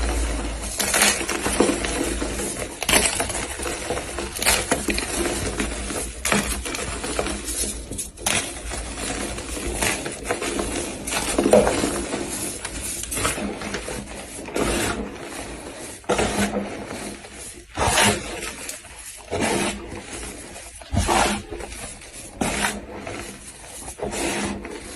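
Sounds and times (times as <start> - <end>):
chalk being crushed: 0.0 - 24.9.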